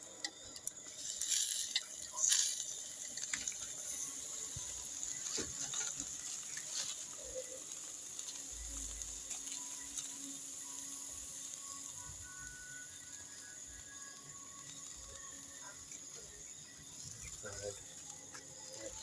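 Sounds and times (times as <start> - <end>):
fire crackles and pops: 0.0 - 19.0
meat sizzling on a grill: 0.0 - 19.0.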